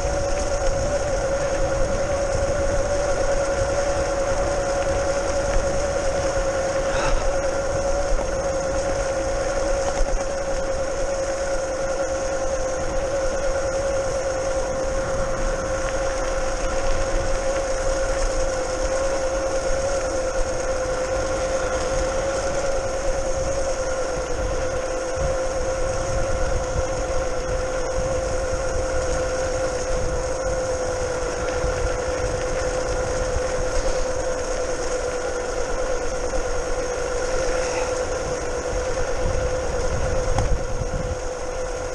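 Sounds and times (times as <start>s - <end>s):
electric scooter motor whining: 0.0s - 41.9s
rumble of wind and tyres: 0.0s - 41.9s.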